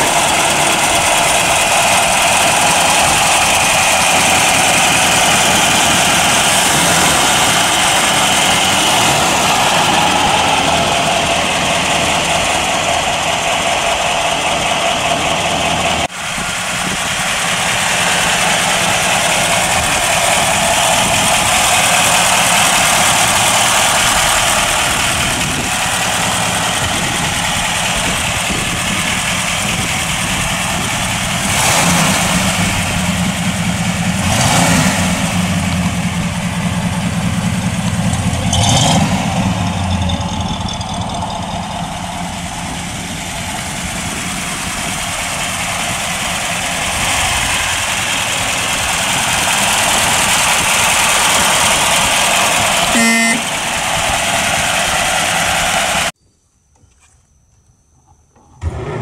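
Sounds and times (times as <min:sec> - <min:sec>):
car engine idling and revving: 0:00.0 - 0:56.2, 0:58.4 - 0:59.0.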